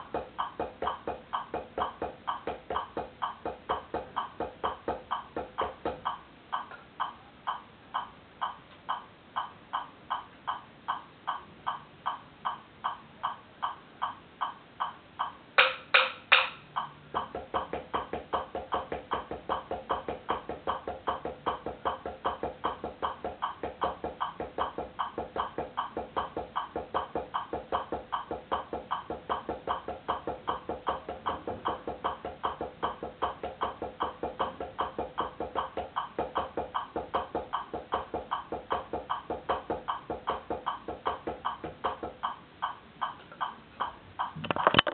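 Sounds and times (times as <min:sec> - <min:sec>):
drumsticks striking a practice pad: 0:00.0 - 0:44.9.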